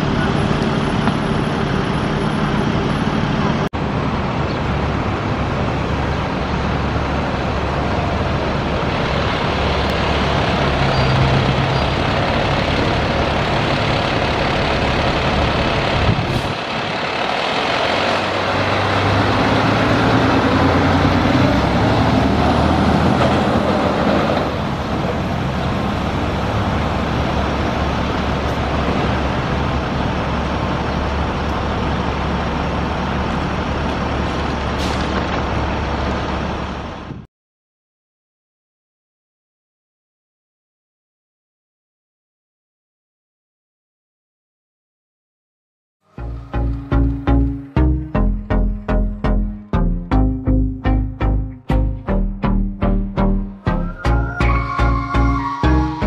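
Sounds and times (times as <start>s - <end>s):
fire truck diesel engine passing: 0.0s - 37.1s, 46.1s - 56.0s
city traffic: 0.0s - 37.3s, 46.0s - 56.0s.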